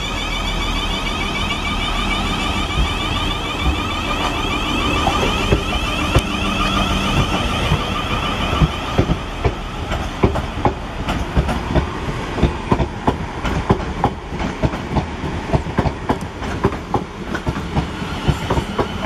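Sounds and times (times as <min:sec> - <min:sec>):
train running gear rumble: 0:00.0 - 0:19.0.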